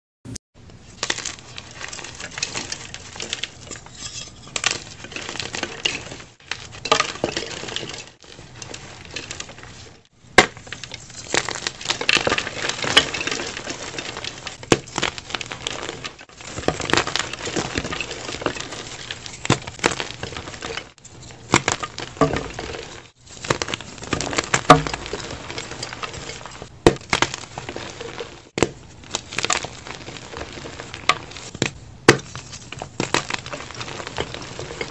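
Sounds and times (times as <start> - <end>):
chalk blocks crunching and snapping: 1.0 - 34.9.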